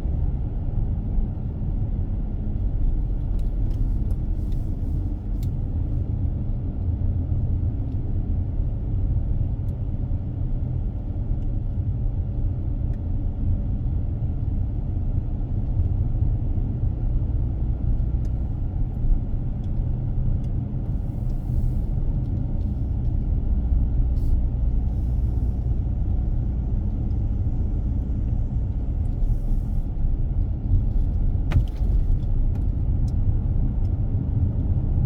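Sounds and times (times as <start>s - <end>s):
car driving low rumble: 0.0s - 35.0s.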